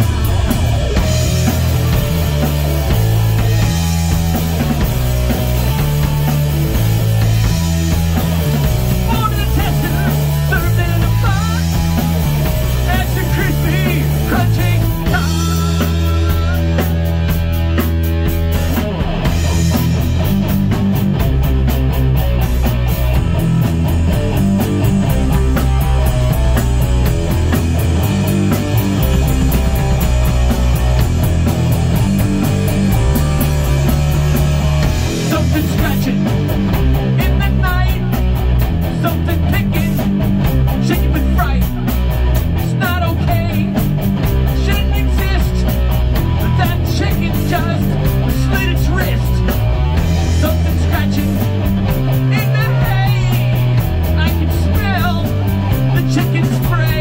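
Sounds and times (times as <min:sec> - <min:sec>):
loud rock music: 0:00.0 - 0:57.0.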